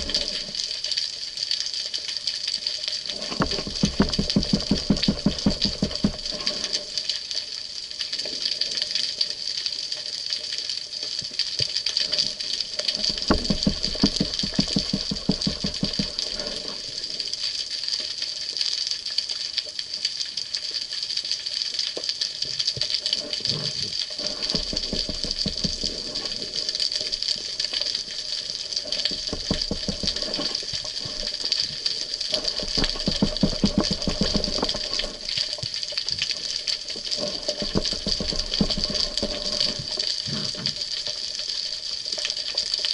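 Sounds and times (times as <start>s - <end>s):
underwater hiss with crackle: 0.0s - 42.9s.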